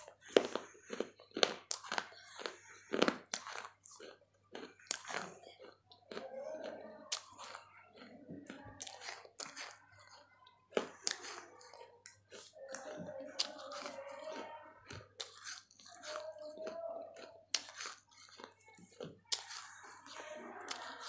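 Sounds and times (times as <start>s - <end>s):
crunching and chewing clay: 0.0s - 21.0s.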